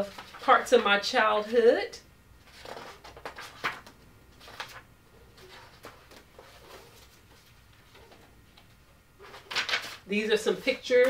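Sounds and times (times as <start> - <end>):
book pages rustling and turning: 0.0 - 0.8, 2.4 - 11.0.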